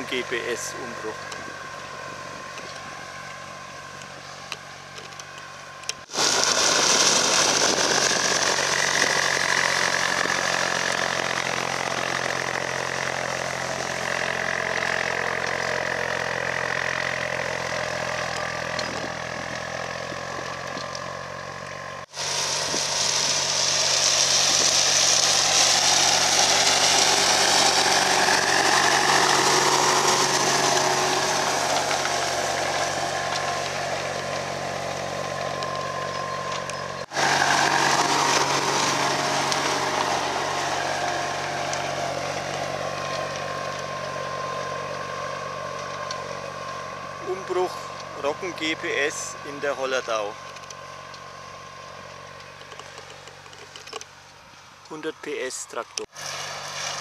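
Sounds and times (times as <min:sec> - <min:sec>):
cultivator rushing through soil: 0:00.0 - 0:57.0
tractor engine under load: 0:00.0 - 0:57.0.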